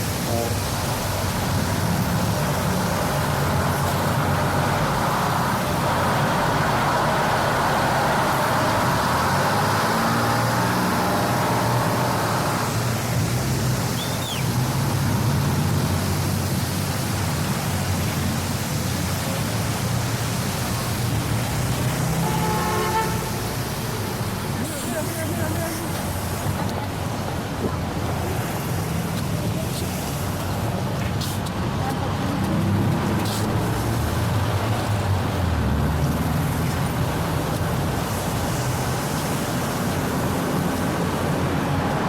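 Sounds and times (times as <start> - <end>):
rushing hiss: 0.0 - 35.2, 35.8 - 42.0
road traffic noise: 0.0 - 42.0
vehicle engines running: 0.0 - 42.0.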